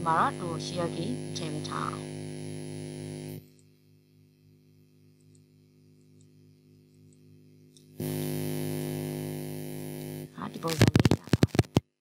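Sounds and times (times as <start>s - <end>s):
electrical mains hum: 0.0s - 11.8s.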